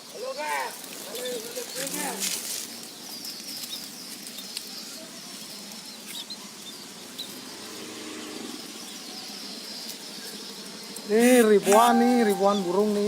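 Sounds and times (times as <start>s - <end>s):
small birds chirping: 0.0s - 13.0s
steady outdoor hiss: 0.0s - 13.0s.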